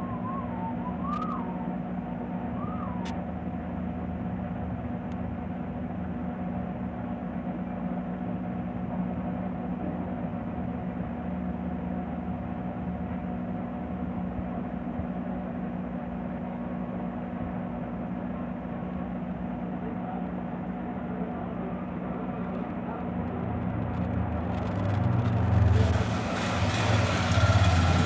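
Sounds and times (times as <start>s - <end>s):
microwave oven humming with fan: 0.0s - 25.8s.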